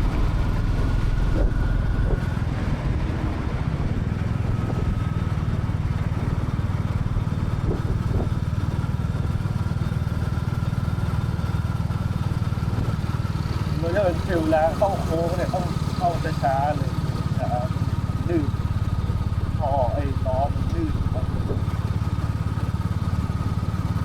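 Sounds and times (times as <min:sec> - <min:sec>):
motorcycle engine rumbling: 0:00.0 - 0:24.0
road and wind noise: 0:00.0 - 0:24.0.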